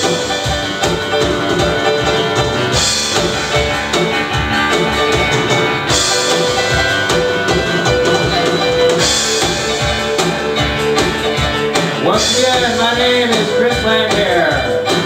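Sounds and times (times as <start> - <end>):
live band guitar and piano: 0.0 - 15.0.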